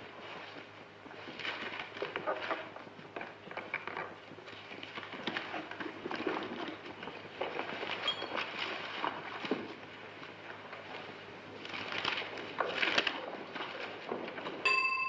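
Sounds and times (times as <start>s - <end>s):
papers rustling: 0.0s - 14.6s.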